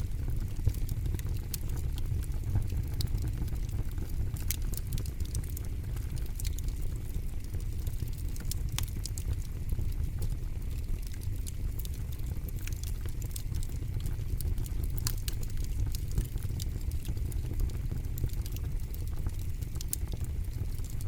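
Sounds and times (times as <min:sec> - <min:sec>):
campfire crackling: 0:00.0 - 0:21.0
low rumble of flames: 0:00.0 - 0:21.0.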